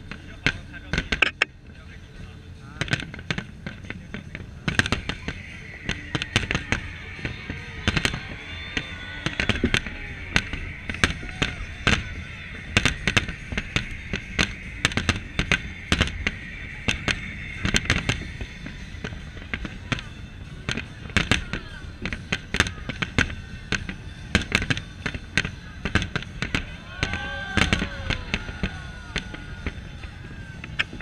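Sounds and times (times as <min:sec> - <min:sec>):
fireworks bursting: 0:00.0 - 0:01.5, 0:02.7 - 0:31.0
crackle and rumble: 0:00.0 - 0:31.0.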